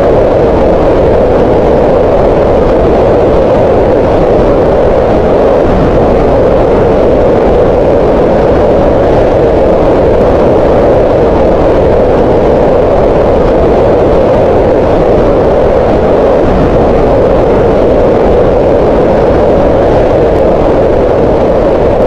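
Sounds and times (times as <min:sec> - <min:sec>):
steady green noise: 0:00.0 - 0:22.0.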